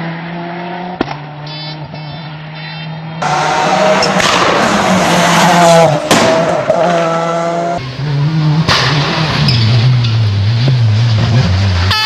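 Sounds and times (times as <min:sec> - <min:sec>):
rally car engine at hard throttle: 0:00.0 - 0:12.0
tyre and exhaust noise: 0:00.0 - 0:12.0.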